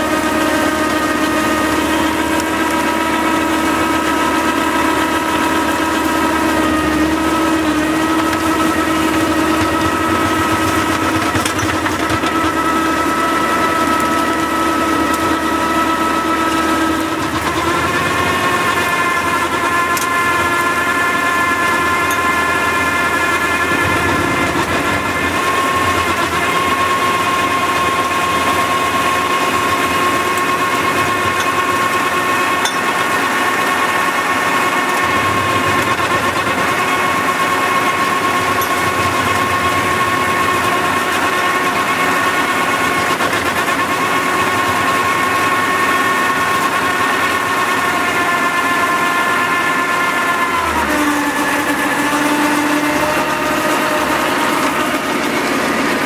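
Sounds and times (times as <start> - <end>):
mulcher rotor whine: 0.0 - 56.0
tractor engine: 0.0 - 56.0.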